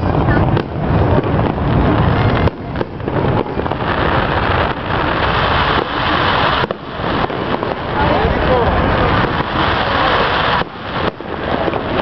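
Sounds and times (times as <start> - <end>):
firework reports: 0.0 - 12.0
fireworks crackling hiss: 0.0 - 12.0.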